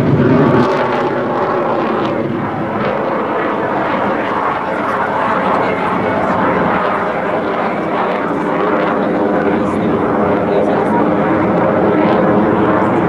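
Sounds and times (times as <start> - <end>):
jet engine rumble overhead: 0.0 - 13.0.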